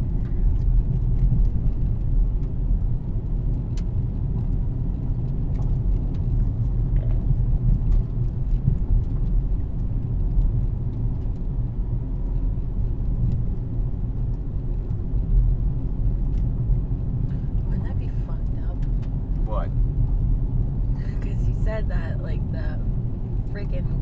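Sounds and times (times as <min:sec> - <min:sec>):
car interior rumble: 0:00.0 - 0:24.0.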